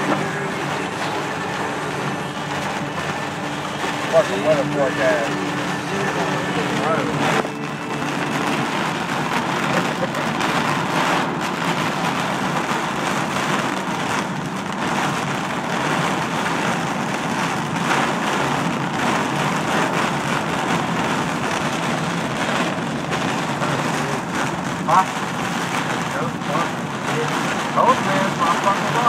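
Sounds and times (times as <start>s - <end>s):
heavy rain on car windshield: 0.0s - 29.0s
road noise: 0.0s - 29.0s.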